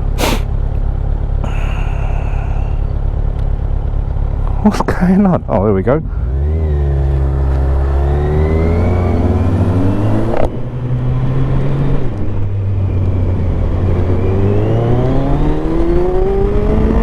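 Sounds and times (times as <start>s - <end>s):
motorcycle engine accelerating: 0.2s - 17.0s.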